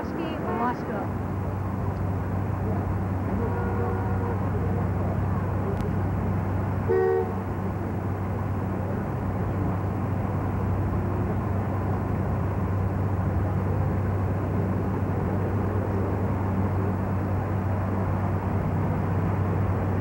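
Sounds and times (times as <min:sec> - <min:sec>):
outdoor noise: 0:00.0 - 0:20.0.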